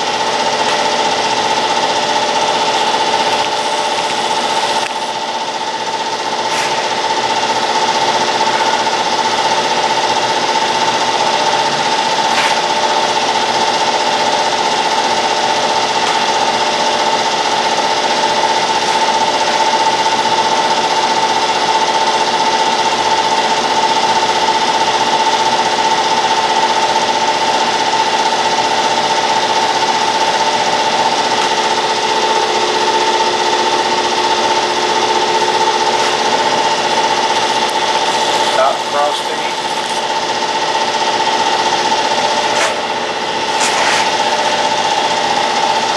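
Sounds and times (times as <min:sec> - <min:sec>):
grinder machine whine: 0:00.0 - 0:45.9.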